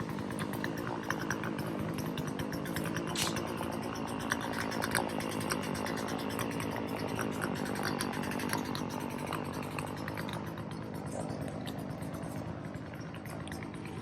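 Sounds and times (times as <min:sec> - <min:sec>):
small gasoline saw engine: 0:00.0 - 0:14.0.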